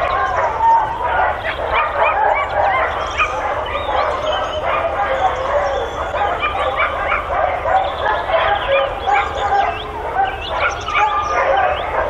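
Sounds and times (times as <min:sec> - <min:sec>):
dogs crying drawn-out: 0:00.0 - 0:12.0
many dogs barking: 0:00.0 - 0:12.0.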